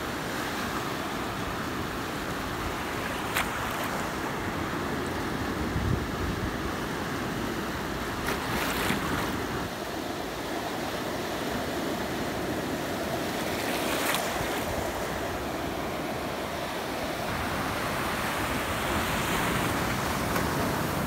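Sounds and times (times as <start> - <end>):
small waves hissing in shallows: 0.0 - 21.0.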